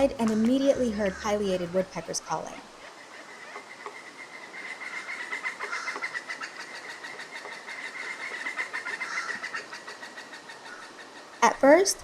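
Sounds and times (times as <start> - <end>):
woodpeckers calling: 0.0 - 11.9.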